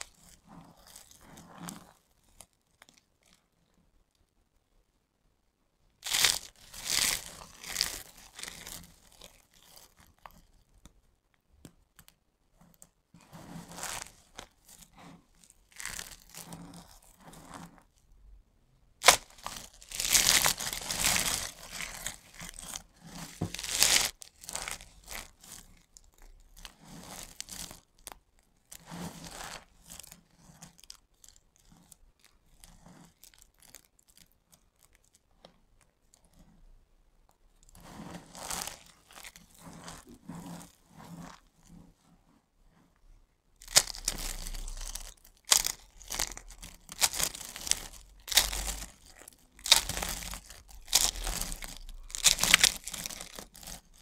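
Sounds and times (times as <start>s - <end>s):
soap crackling and crunching: 0.0s - 3.4s, 6.0s - 10.9s, 13.7s - 17.8s, 19.0s - 36.5s, 37.6s - 41.5s, 43.6s - 54.0s.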